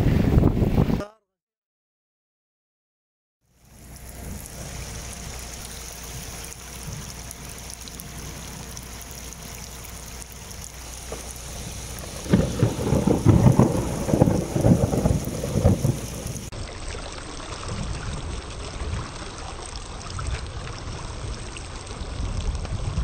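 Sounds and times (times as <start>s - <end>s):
low uneven rumble: 3.5s - 23.0s
water rushing over rocks: 3.6s - 23.0s.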